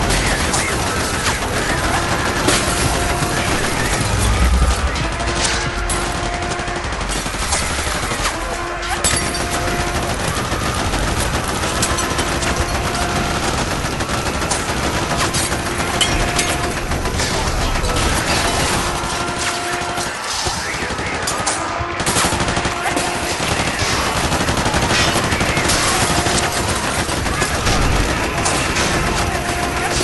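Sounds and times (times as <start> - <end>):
machine guns and rifles firing: 0.0 - 30.0.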